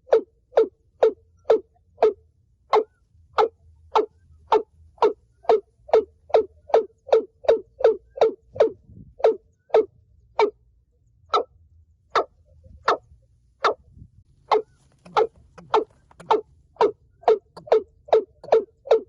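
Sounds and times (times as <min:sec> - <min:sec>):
bird calling with deep notes: 0:00.0 - 0:19.0.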